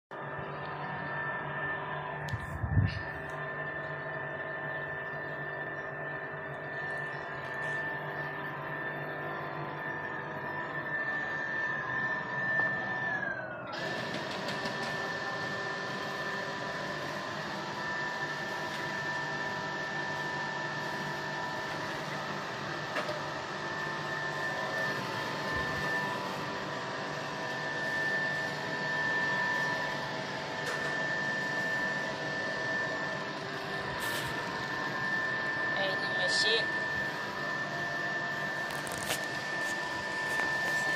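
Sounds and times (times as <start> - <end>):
constant high-pitched tone: 0.1 - 40.9
high-pitched whine: 0.1 - 40.9
machinery hum: 0.1 - 40.9.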